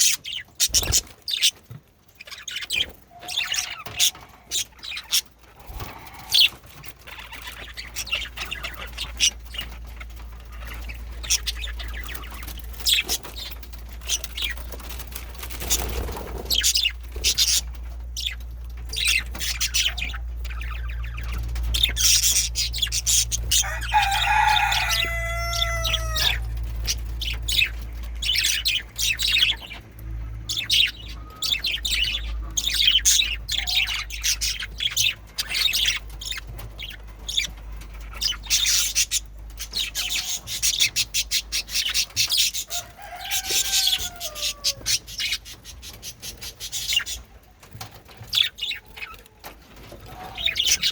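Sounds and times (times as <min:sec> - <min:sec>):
budgerigars chirping: 0:00.0 - 0:50.9.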